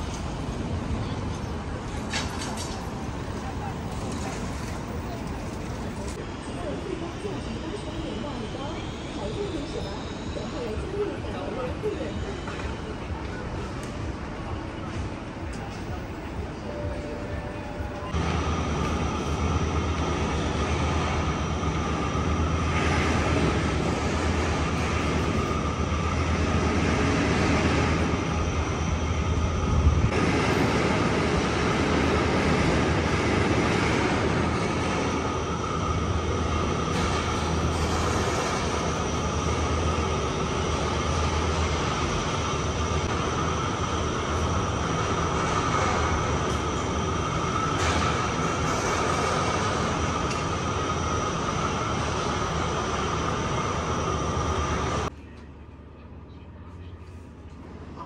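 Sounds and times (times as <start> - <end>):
city street rumble and hum: 0.0 - 58.0.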